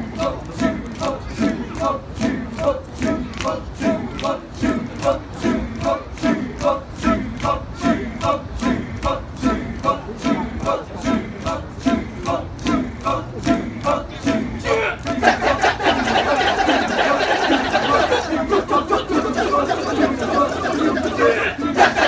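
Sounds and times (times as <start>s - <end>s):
men chanting in rhythm: 0.0s - 22.0s.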